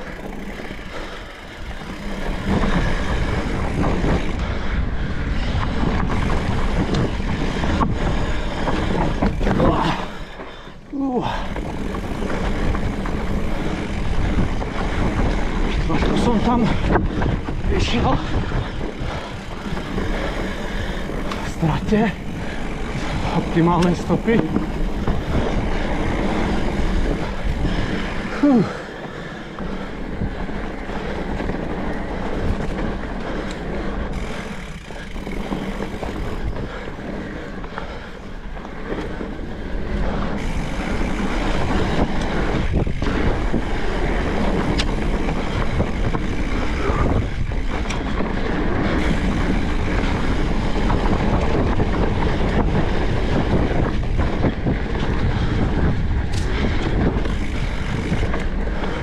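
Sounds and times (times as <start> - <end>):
bike rattling: 0.0 - 59.0
bike tyres rolling on dirt: 0.0 - 59.0
wind rumbling on microphone: 0.0 - 59.0.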